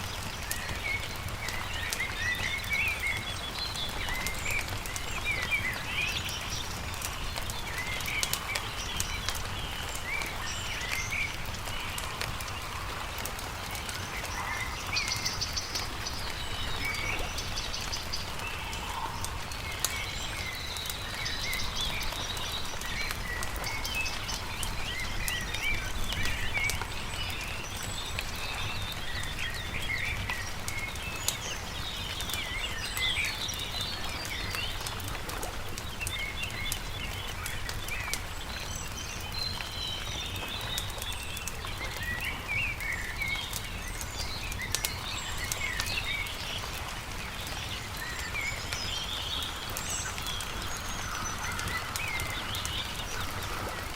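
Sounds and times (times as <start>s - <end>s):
campfire crackling: 0.0s - 53.9s
small birds chirping: 0.0s - 53.9s.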